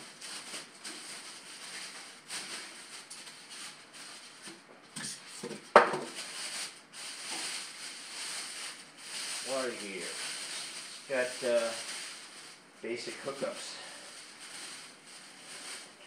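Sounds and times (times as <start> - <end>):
styrofoam pieces handled: 0.0 - 4.6, 5.2 - 16.0
plastic bag rustling: 0.0 - 16.0.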